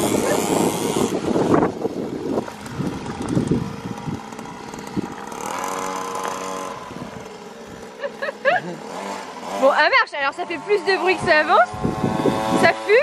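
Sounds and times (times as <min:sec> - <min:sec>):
small motorbike engine revving: 0:00.0 - 0:13.0.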